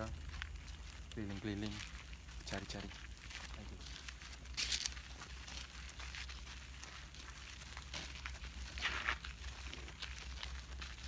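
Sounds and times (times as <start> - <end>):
footsteps: 0.0 - 11.0
rustling: 0.0 - 11.0
scuffs: 0.0 - 11.0.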